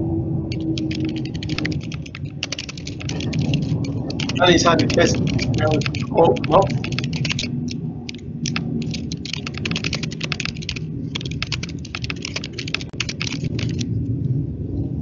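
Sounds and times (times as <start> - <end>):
computer keyboard typing: 0.5 - 13.9.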